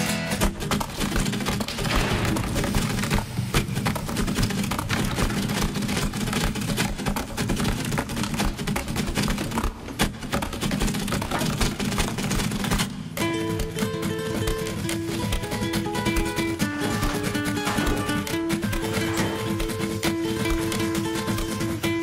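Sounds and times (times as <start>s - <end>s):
rapid rattling and clicking: 0.3s - 22.0s.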